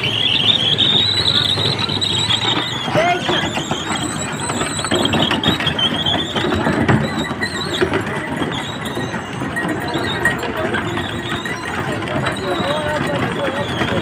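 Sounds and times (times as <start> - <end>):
carts clattering: 0.0 - 14.0
street noise: 0.0 - 14.0
wooden axles squealing: 0.0 - 14.0.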